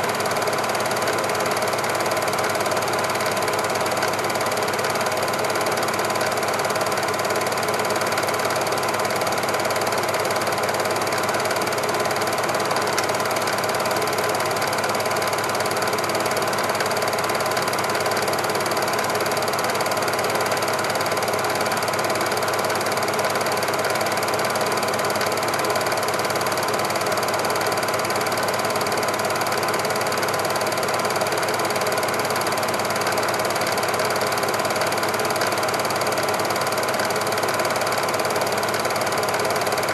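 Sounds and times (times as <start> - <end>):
film projector whirring and rattling: 0.0 - 39.9.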